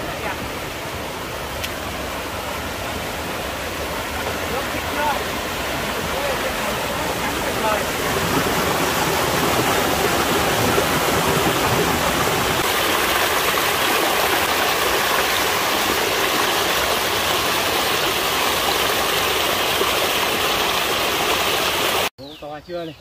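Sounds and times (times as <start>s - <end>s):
stream rushing over boulders: 0.0s - 22.1s.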